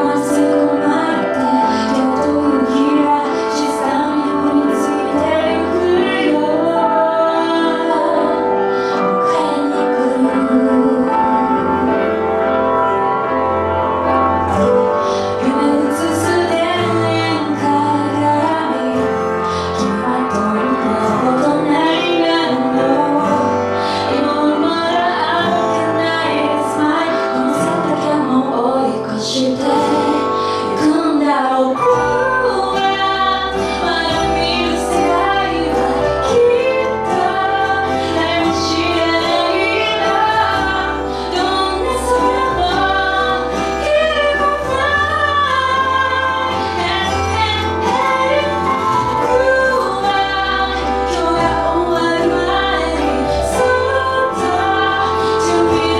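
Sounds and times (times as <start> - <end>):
woman singing: 0.0 - 12.2, 14.5 - 55.9
instrumental accompaniment: 0.0 - 55.9.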